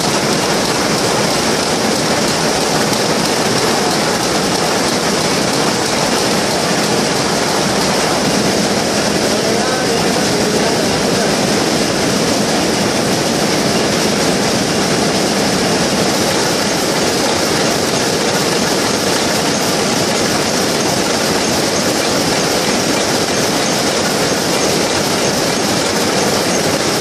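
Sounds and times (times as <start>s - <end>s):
looms clattering: 0.0s - 27.0s.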